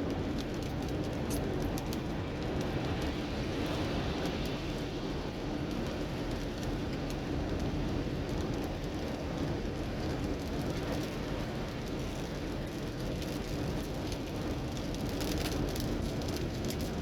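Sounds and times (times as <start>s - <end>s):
rain on car: 0.0s - 17.0s.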